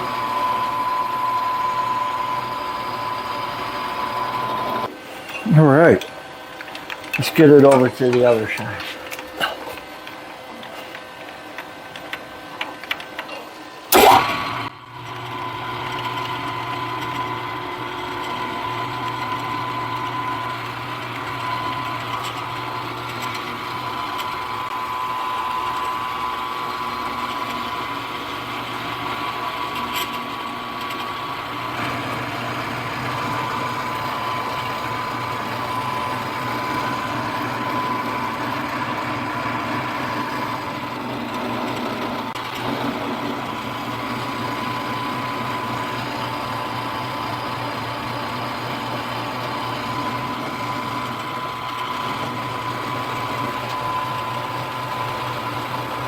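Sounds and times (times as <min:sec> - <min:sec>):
milling machine spindle whine: 0:00.0 - 0:56.0.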